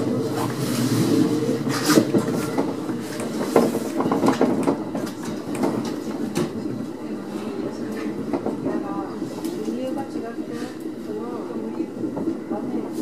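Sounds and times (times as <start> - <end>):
train running gear hum: 0.0 - 13.0
wheels clicking on rails: 0.0 - 13.0.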